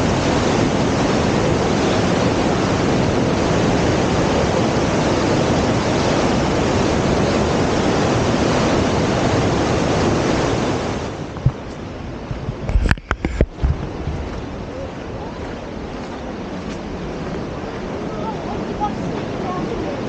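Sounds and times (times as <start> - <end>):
rushing water roar: 0.0 - 20.0.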